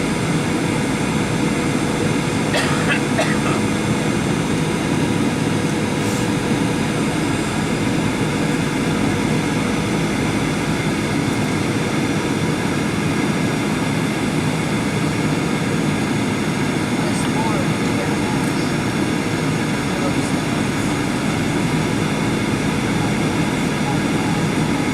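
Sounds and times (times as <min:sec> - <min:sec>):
jet engine drone: 0:00.0 - 0:24.9.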